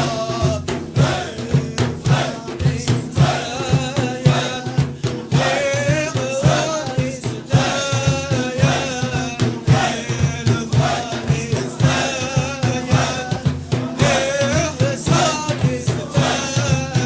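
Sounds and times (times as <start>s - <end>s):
low rhythmic pulse: 0.0s - 17.0s
group of voices chanting: 1.0s - 4.7s, 5.3s - 6.7s, 7.5s - 16.8s.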